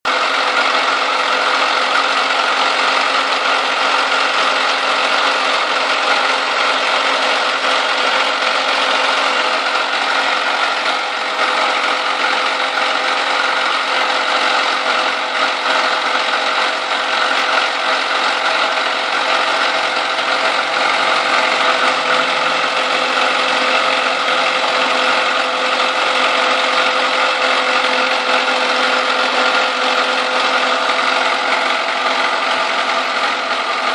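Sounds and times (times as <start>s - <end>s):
car engine running: 0.0s - 33.9s
knock inside engine: 0.2s - 33.9s.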